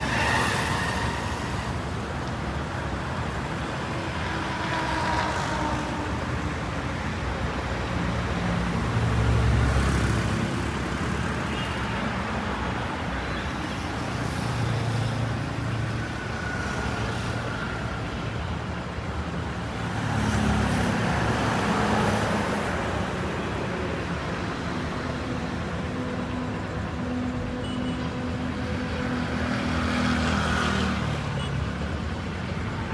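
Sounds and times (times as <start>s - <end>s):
road traffic passing: 0.0s - 32.9s.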